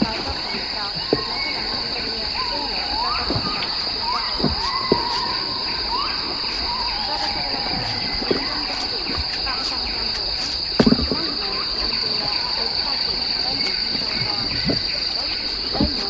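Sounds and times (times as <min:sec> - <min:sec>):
insects droning: 0:00.0 - 0:16.0
whistled bird calls: 0:00.0 - 0:16.0.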